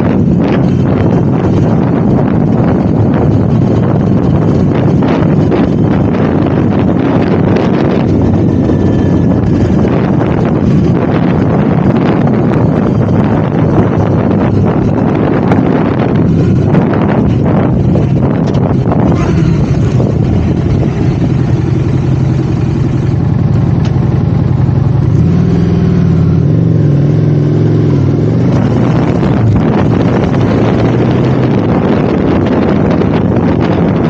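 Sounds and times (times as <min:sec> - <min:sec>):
motorcycle engine running: 0:00.0 - 0:34.0
wind noise on microphone: 0:00.0 - 0:34.0.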